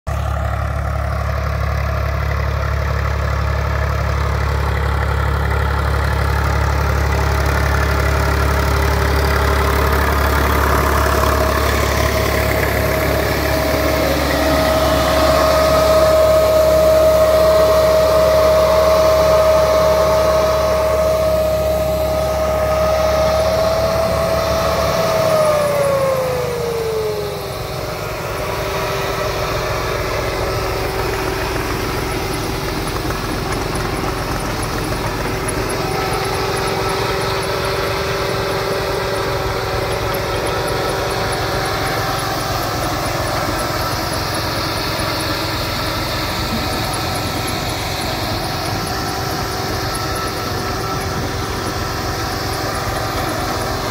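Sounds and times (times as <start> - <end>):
tractor engine drone with whine: 0.0 - 53.9.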